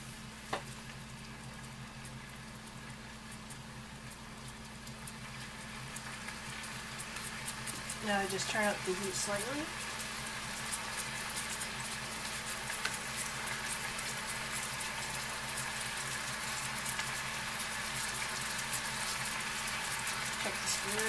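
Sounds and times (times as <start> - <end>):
meat sizzling in a pan: 0.0 - 21.0
sauce bubbling with crackles: 0.2 - 21.0.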